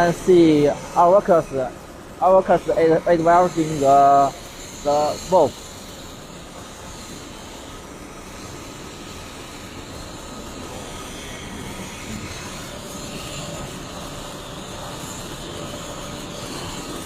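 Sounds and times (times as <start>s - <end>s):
welding machine hiss and hum: 0.0s - 17.0s.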